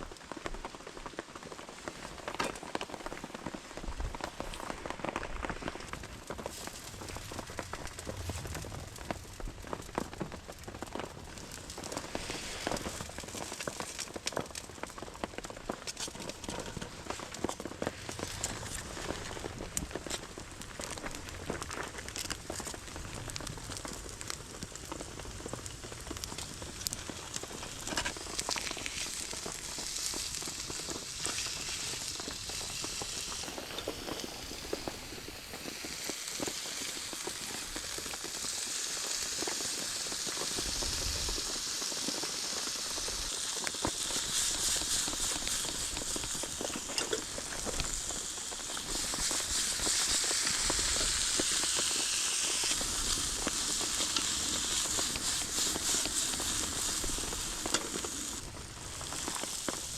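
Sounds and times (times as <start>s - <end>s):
fire crackling: 0.0s - 59.9s
pork sizzling over campfire: 0.0s - 59.9s.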